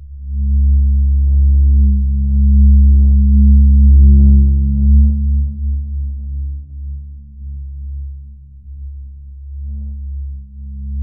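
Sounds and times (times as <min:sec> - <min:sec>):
deep sustained drone: 0:00.0 - 0:11.0.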